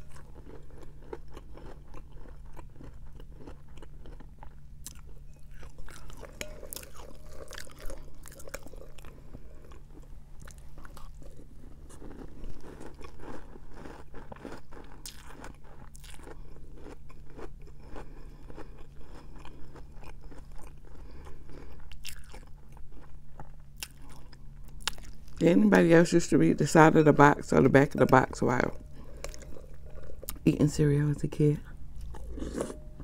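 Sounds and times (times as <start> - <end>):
crunching and chewing cereal: 0.0 - 26.7, 28.3 - 30.7, 31.6 - 33.0.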